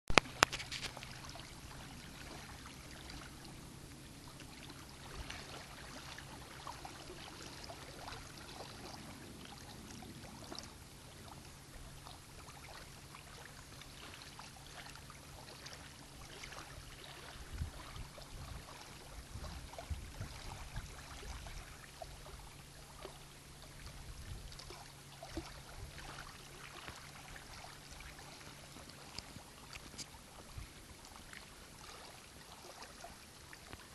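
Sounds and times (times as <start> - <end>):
low steady hum: 0.1 - 33.9
small waves lapping: 0.1 - 33.9.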